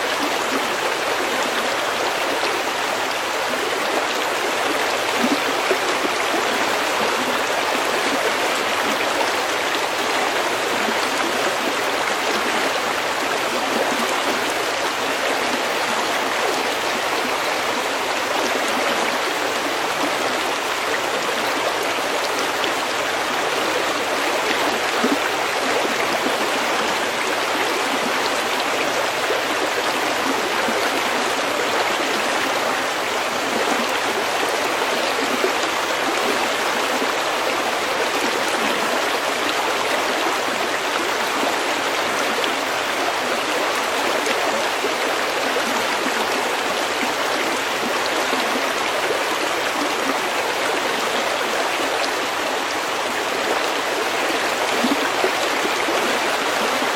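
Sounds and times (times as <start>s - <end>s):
stream flowing over pebbles: 0.0s - 56.9s.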